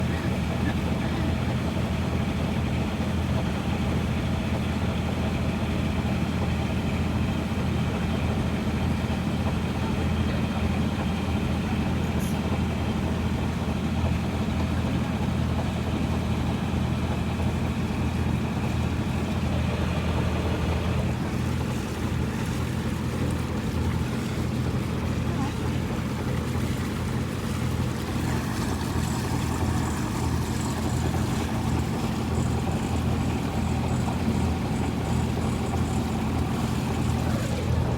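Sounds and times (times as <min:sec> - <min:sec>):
boat engine humming: 0:00.0 - 0:37.9.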